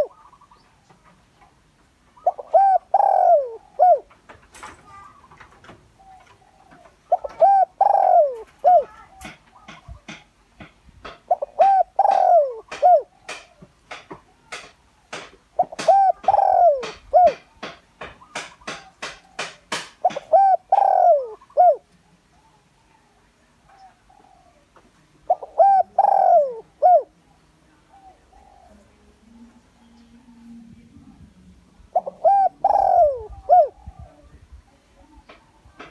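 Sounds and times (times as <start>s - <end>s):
dove cooing: 0.0s - 10.2s, 11.0s - 34.4s.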